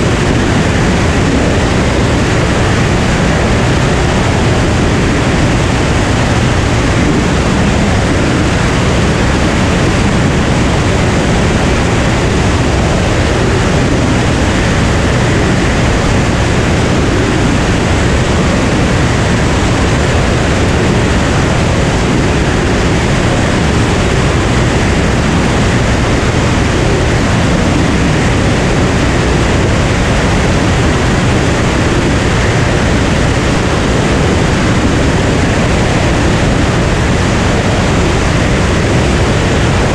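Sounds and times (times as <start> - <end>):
airplane engine and airflow rush: 0.0 - 39.9.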